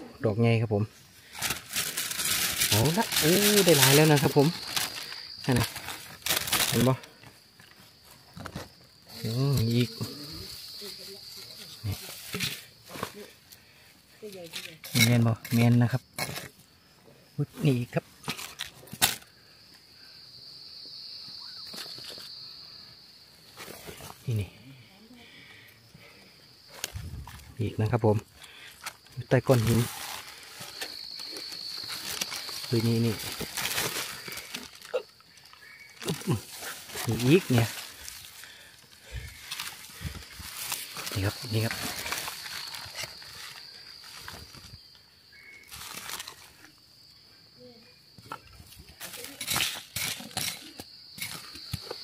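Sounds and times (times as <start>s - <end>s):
insect buzzing: 1.1s - 14.9s, 19.2s - 27.6s, 28.2s - 52.0s.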